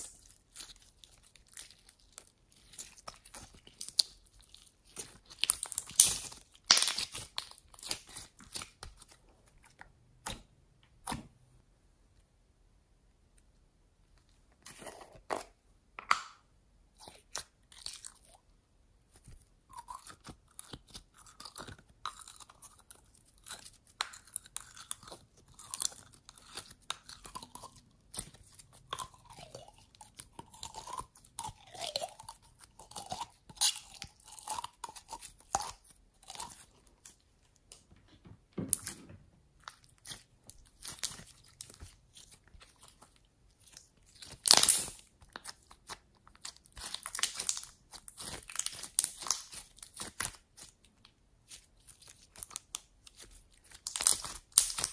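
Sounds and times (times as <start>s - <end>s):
slime squelching and clicking: 0.0s - 11.3s, 19.0s - 54.9s.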